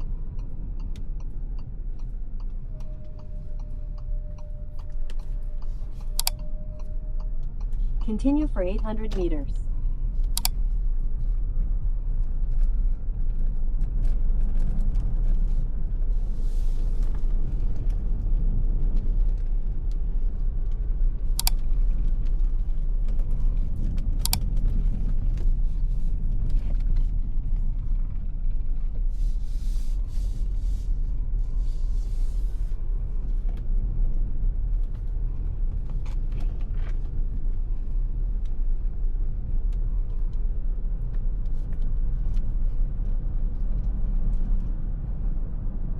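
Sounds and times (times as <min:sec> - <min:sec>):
road and tyre rumble: 0:00.0 - 0:45.9.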